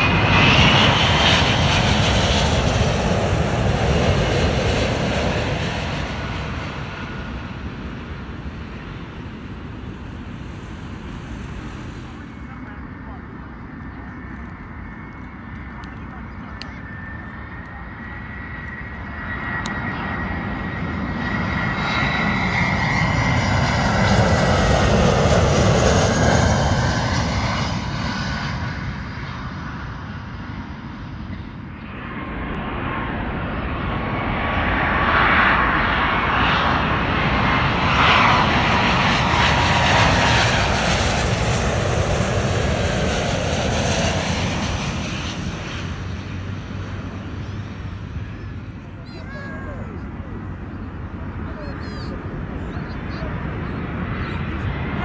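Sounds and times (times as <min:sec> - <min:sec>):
high jet engine whine: 0:00.0 - 0:55.0
jet airliners passing overhead: 0:00.0 - 0:55.0.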